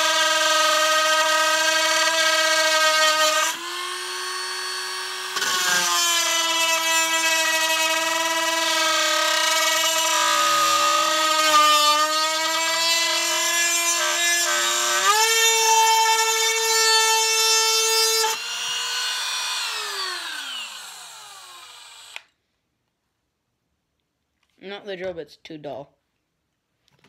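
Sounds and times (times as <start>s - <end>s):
rotary tool whining: 0.0s - 22.3s.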